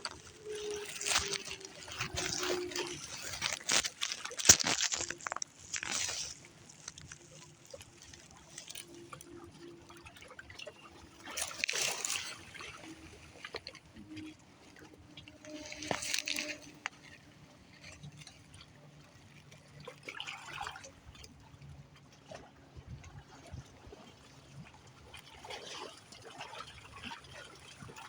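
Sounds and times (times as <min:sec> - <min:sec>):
water lapping and sloshing: 0:00.0 - 0:28.0
water trickling: 0:00.0 - 0:28.0.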